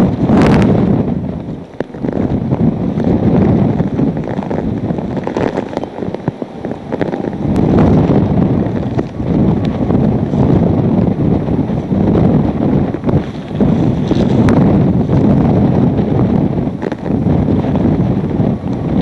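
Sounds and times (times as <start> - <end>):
strong wind gusting on microphone: 0.0 - 19.0.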